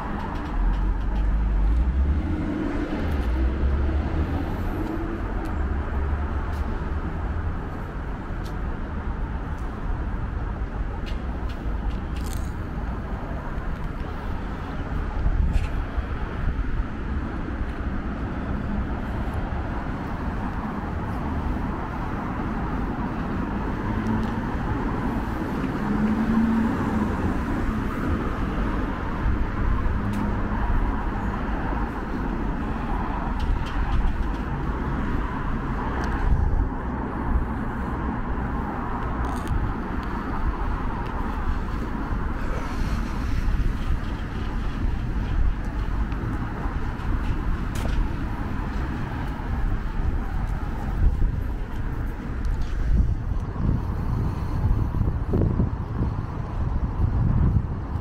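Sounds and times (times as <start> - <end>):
cars passing on street: 0.0 - 58.0.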